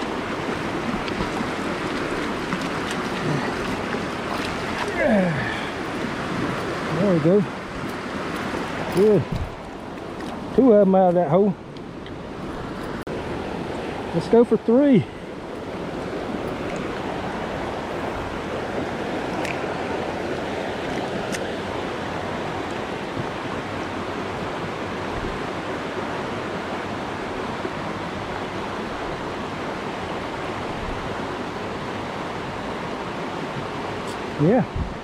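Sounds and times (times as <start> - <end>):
stream rushing over stones: 0.0 - 35.0.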